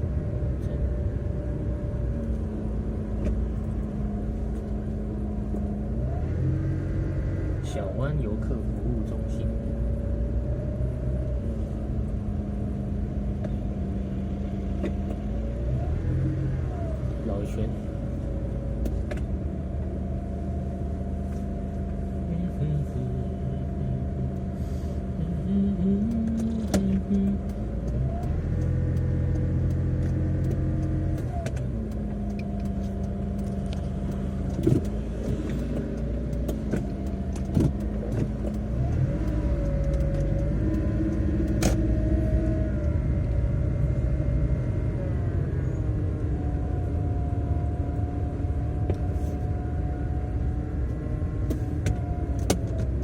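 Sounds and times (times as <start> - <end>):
car engine inside cabin: 0.0 - 53.0
road noise: 0.0 - 53.0.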